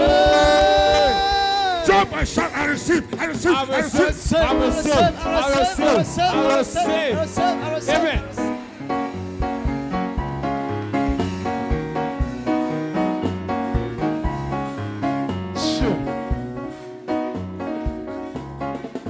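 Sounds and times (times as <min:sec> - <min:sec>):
upbeat instrumental music: 0:00.0 - 0:19.0.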